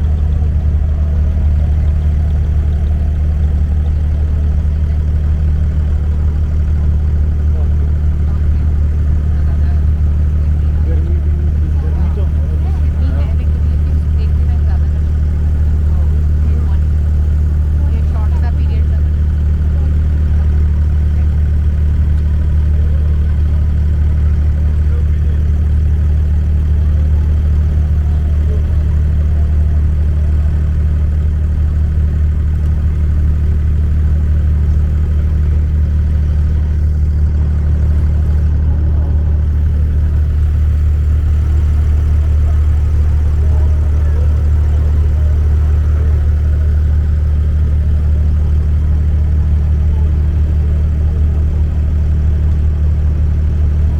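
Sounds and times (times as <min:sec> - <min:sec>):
boat engine drone: 0:00.0 - 0:53.9.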